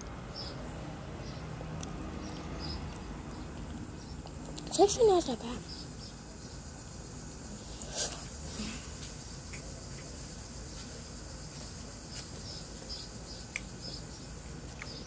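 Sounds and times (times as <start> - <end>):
outdoor background hum: 0.0 - 15.0.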